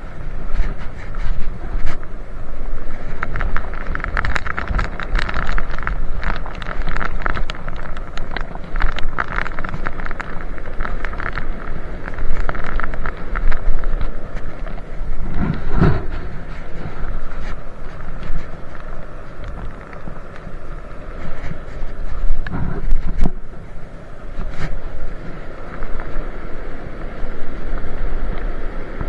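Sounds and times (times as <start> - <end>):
rushing stream water: 0.0 - 29.0
wind buffeting microphone: 0.0 - 29.0.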